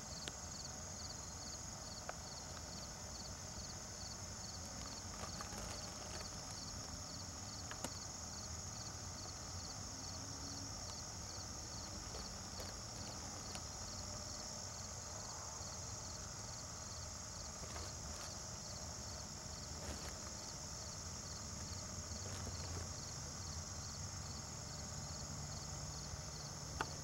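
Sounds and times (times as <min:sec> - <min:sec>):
insect chirping in pulses: 0:00.0 - 0:27.0
insect chorus: 0:00.0 - 0:27.0.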